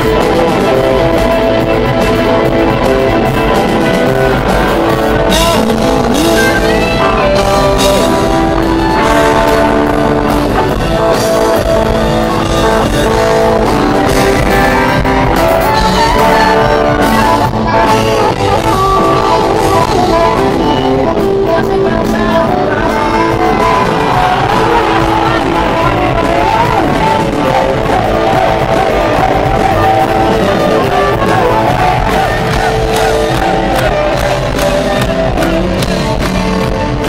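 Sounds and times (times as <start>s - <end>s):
rock band playing loud: 0.0s - 37.0s.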